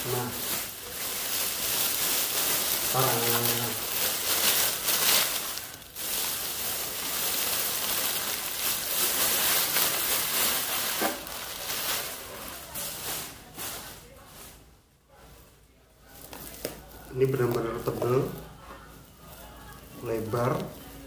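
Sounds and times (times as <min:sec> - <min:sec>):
plastic bag rustling: 0:00.0 - 0:21.0.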